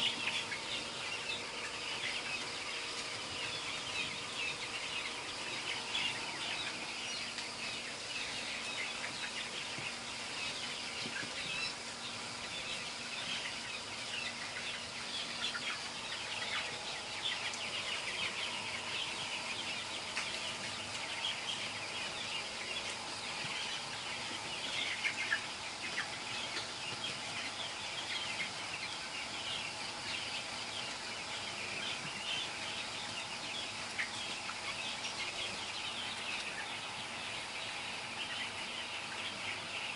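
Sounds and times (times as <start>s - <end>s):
chicks peeping and cheeping: 0.0s - 39.9s.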